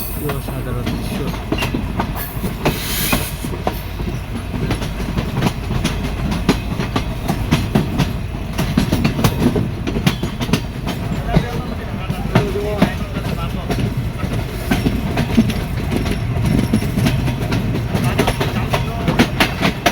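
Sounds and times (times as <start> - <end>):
train rumbling on rails: 0.0 - 19.9
wheels clicking over track: 0.0 - 19.9.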